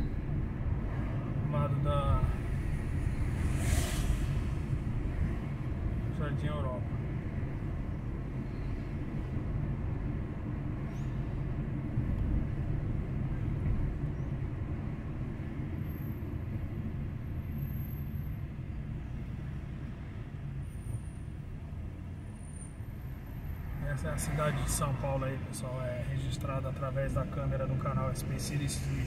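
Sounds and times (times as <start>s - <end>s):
car engine: 0.0s - 29.0s
road rumble: 0.0s - 29.0s.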